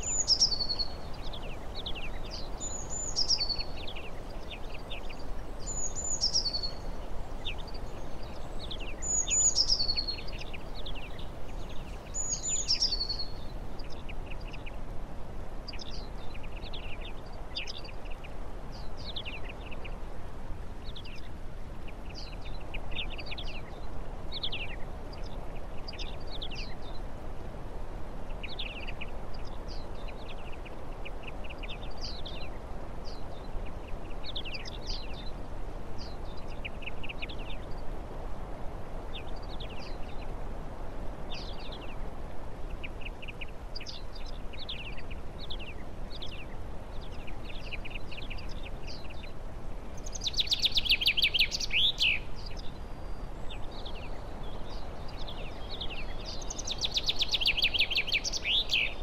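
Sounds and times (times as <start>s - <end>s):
low background noise: 0.0s - 59.0s.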